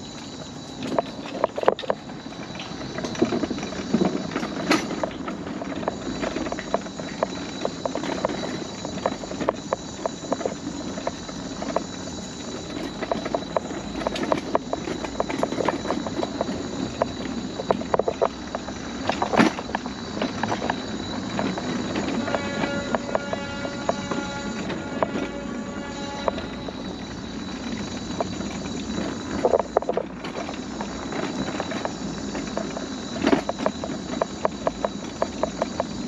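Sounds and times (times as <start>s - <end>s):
wheels clacking over wooden planks: 0.0s - 36.0s.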